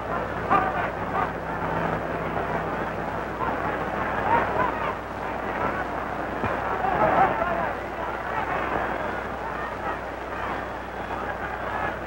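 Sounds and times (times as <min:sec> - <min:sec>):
film soundtrack hiss and hum: 0:00.0 - 0:12.0
indistinct voices: 0:00.0 - 0:12.0
stadium crowd noise: 0:00.0 - 0:12.0.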